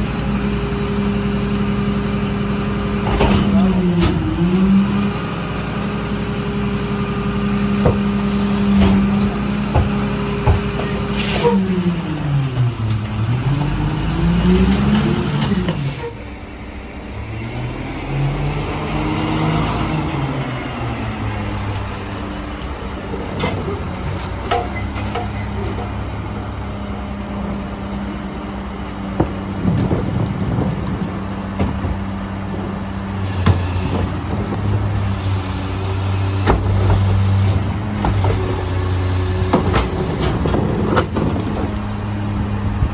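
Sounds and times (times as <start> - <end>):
garbage truck engine running: 0.0 - 42.9.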